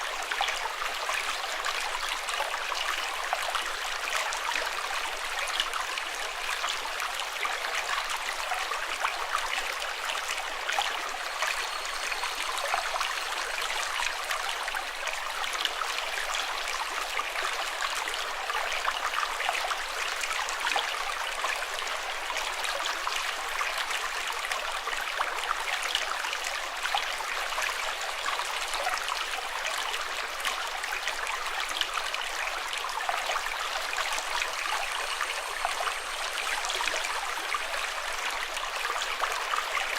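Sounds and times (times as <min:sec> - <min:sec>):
water babbling: 0:00.0 - 0:39.9.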